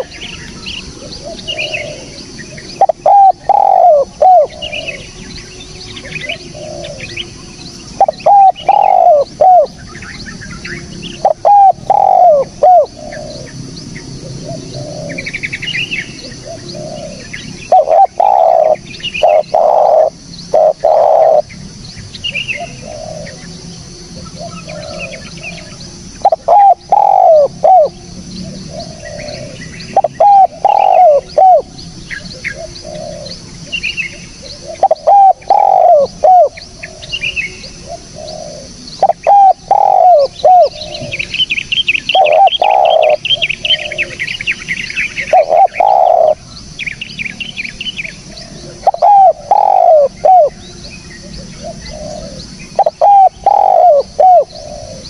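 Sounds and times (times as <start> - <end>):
dove cooing: 0.0 - 10.4, 11.0 - 21.6, 22.3 - 23.6, 24.2 - 46.6, 47.9 - 55.0
small birds chirping: 0.0 - 55.0
steady high hiss: 0.0 - 55.0.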